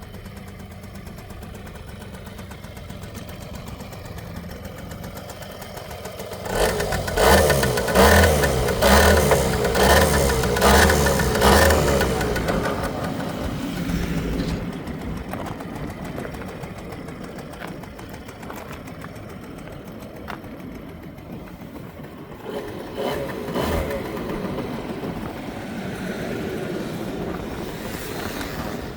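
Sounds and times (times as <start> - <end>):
scooter engine idling: 0.0 - 28.9.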